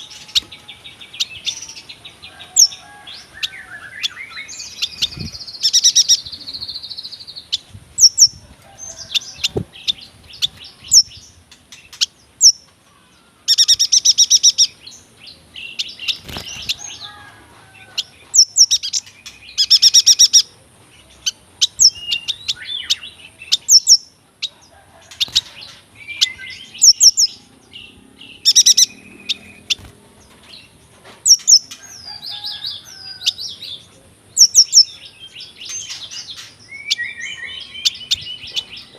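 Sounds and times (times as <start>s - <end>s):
bird chirping song: 0.0s - 38.9s.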